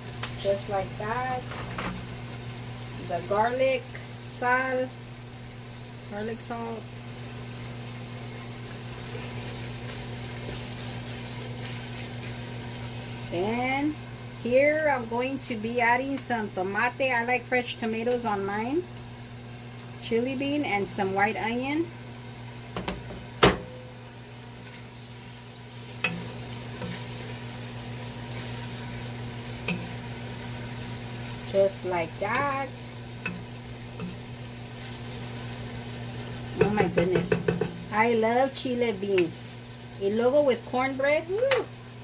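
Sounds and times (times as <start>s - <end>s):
meat sizzling in a pot: 0.0s - 42.0s.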